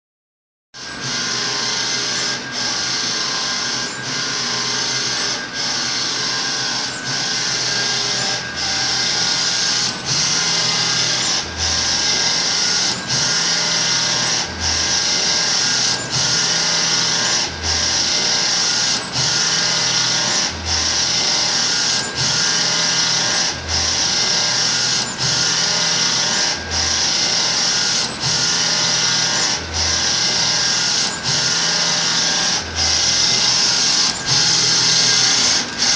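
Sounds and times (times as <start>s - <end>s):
printer running: 0.8s - 35.9s.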